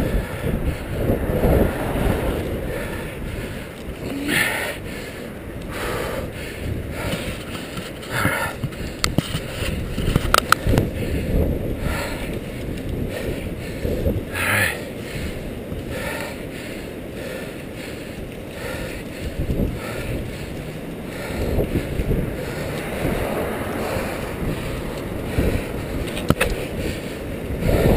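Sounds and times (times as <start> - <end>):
tyres rumbling on road: 0.0 - 27.9
wind buffeting microphone: 0.0 - 27.9.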